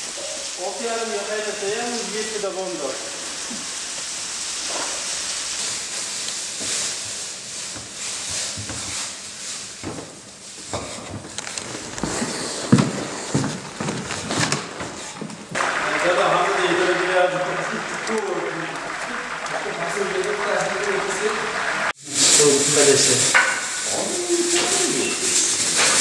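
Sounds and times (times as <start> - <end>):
food sizzling in cauldron: 0.0 - 26.0.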